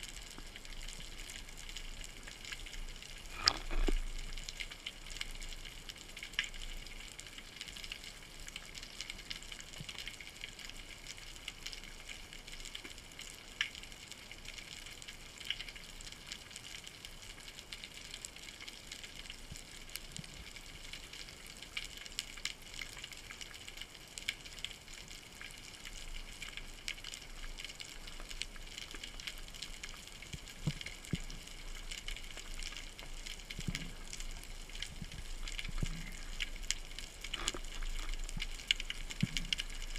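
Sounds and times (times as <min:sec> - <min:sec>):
small clicks and crackles: 0:00.0 - 0:39.9.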